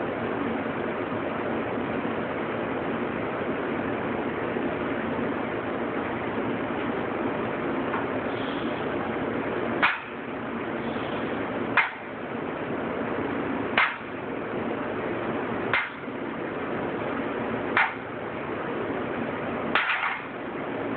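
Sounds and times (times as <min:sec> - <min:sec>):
steady background hiss: 0:00.0 - 0:20.9.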